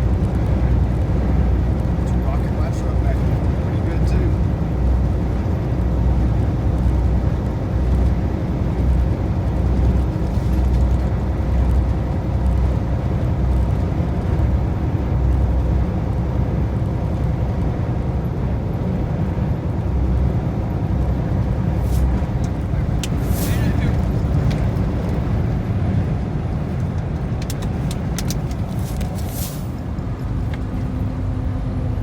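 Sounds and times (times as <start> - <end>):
truck engine and road rumble: 0.0 - 32.0.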